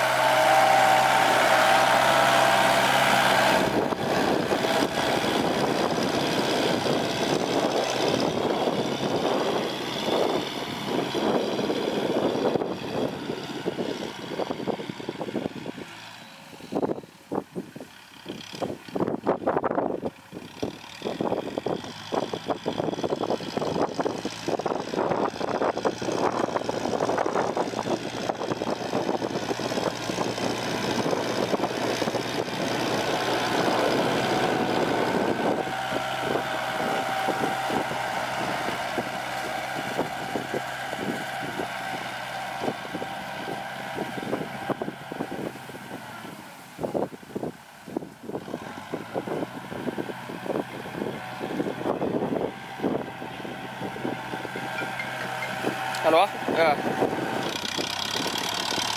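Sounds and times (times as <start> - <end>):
machinery rattling: 0.0 - 14.8, 20.7 - 45.4, 49.2 - 58.9
diesel engine hum: 0.0 - 58.9.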